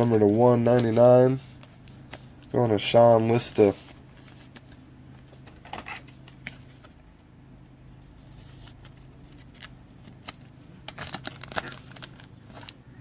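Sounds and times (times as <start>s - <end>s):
cards rustling and clicking: 0.0s - 7.0s, 8.3s - 13.0s
steady low hum: 0.0s - 13.0s.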